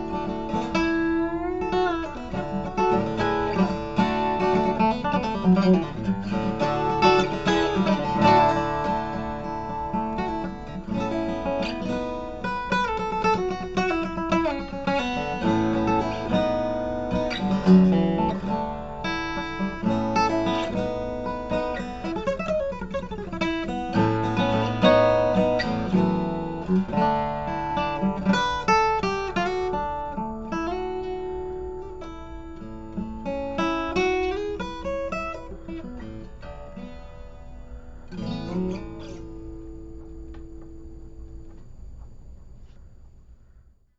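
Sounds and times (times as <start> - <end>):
acoustic guitar picking and strumming: 0.0 - 42.8.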